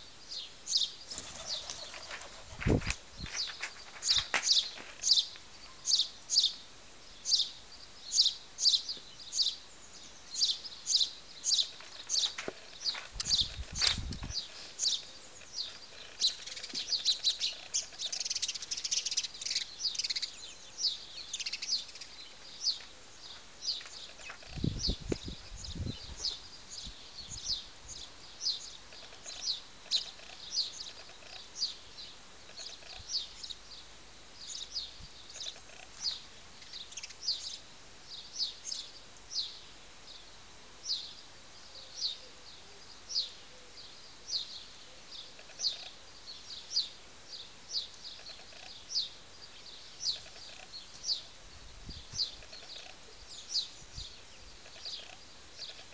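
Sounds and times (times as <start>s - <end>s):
small bird chirping: 0.0s - 55.9s.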